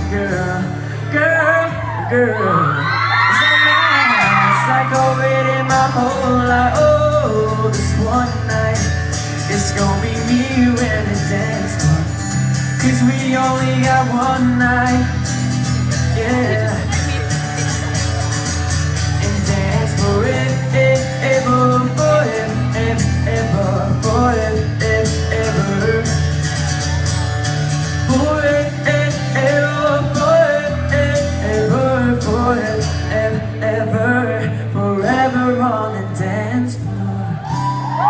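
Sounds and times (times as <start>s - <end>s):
live pop music over speakers: 0.0s - 38.0s.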